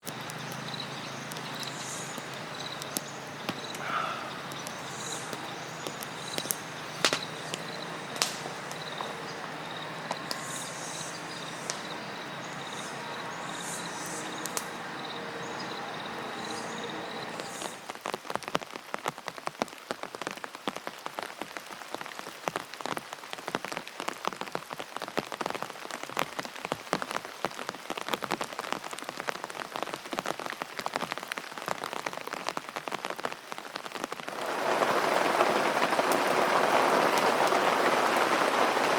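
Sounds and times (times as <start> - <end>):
rain falling: 0.0 - 38.9
raindrops pattering on a surface: 0.0 - 38.9.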